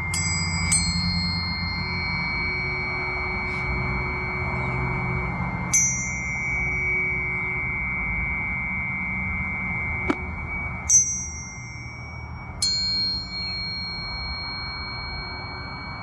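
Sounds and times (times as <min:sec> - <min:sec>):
tuning fork struck ping: 0:00.0 - 0:16.0
tuning forks ringing: 0:00.0 - 0:16.0.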